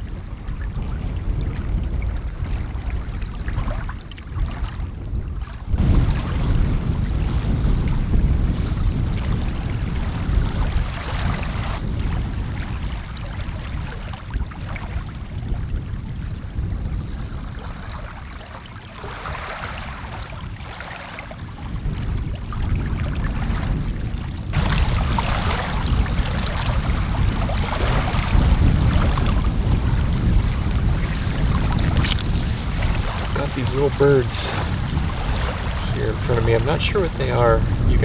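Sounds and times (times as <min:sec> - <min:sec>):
waves lapping on stony shore: 0:00.0 - 0:38.0
wind buffeting microphone: 0:00.0 - 0:38.0.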